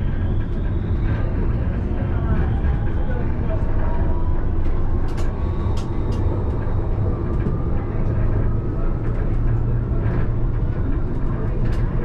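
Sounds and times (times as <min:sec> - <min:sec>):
tram running along track: 0:00.0 - 0:12.0.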